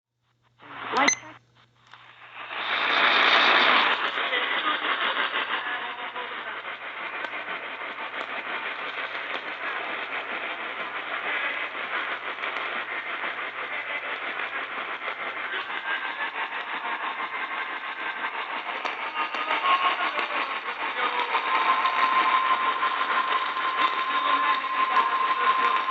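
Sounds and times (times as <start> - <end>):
radio static hiss: 0.6 - 1.3, 1.9 - 25.9.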